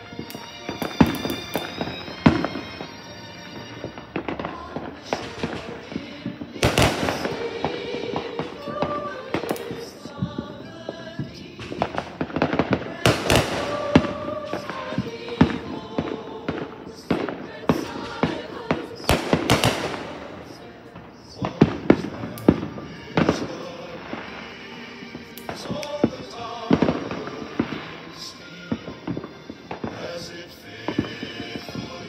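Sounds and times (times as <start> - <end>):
faint music: 0.0 - 32.0
fireworks banging and crackling: 0.0 - 32.0.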